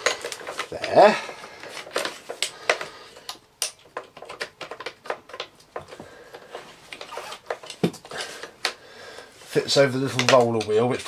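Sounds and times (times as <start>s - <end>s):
parts clicking and knocking: 0.0s - 8.8s, 10.1s - 10.9s.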